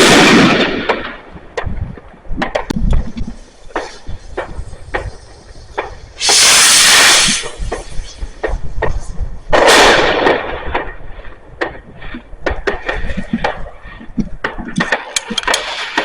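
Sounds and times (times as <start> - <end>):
fireworks bangs and crackles: 0.0 - 16.0
fireworks rushing bursts: 0.0 - 16.0.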